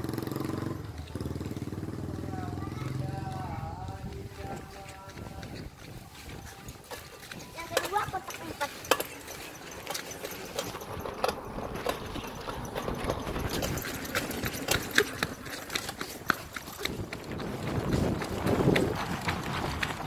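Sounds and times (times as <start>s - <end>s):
bicycle rattling over paving: 0.0s - 20.0s.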